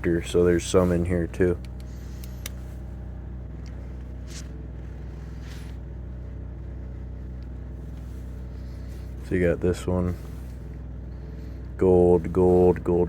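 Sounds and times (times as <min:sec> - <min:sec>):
faint rustles: 0:00.0 - 0:12.9
low machine hum: 0:00.0 - 0:13.0.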